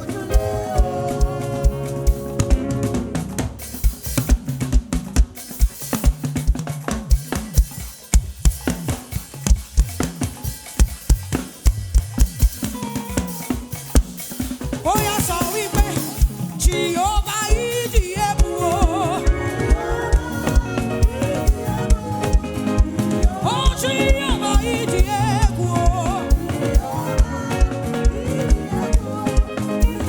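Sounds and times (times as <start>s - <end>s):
drum kit fast beat: 0.0s - 30.0s.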